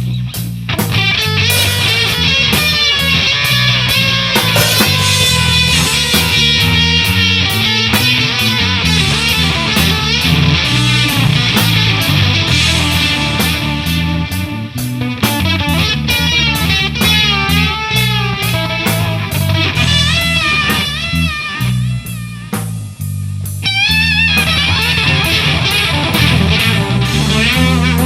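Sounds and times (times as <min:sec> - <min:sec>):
distorted electric guitar solo: 0:00.0 - 0:23.0, 0:23.6 - 0:28.0
bass guitar: 0:00.0 - 0:28.0
drum kit: 0:00.0 - 0:28.0.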